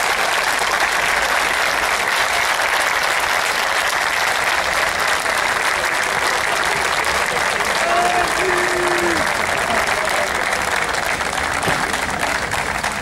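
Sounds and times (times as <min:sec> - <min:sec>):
crowd applause: 0:00.0 - 0:13.0.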